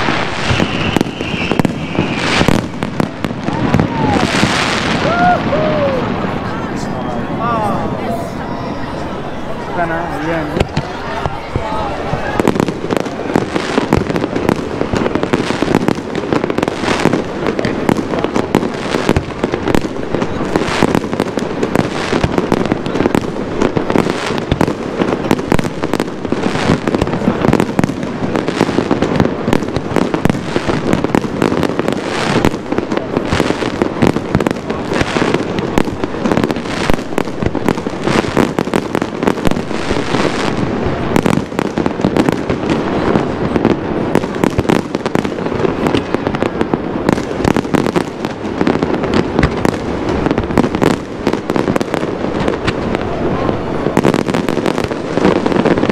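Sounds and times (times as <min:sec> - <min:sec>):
fireworks loud bangs: 0:00.0 - 0:55.9.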